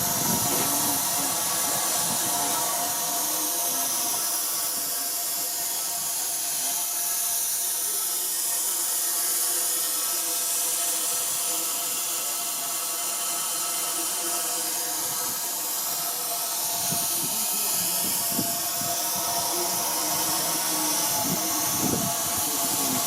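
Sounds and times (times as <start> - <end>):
faint steady tones: 0.0 - 23.0
steam locomotive hissing: 0.0 - 23.0.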